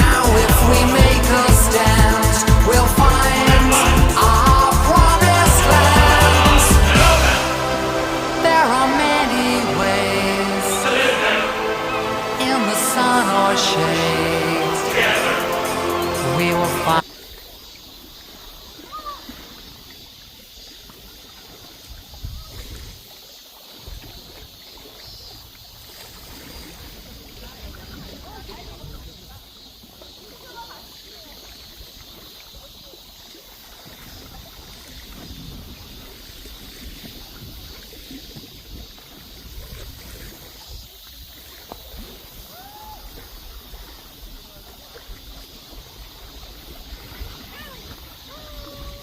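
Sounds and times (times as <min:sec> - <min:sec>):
sea water splashing: 0:00.0 - 0:49.0.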